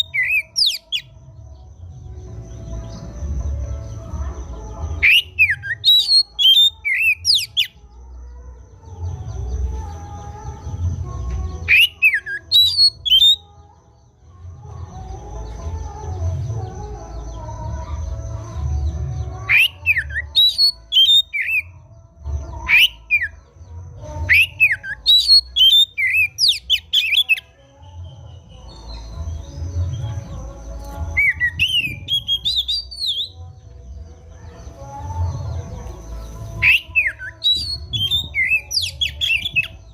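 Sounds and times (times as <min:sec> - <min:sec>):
bird singing whistled notes: 0:00.0 - 0:04.0, 0:05.0 - 0:08.0, 0:08.6 - 0:13.5, 0:18.8 - 0:39.9.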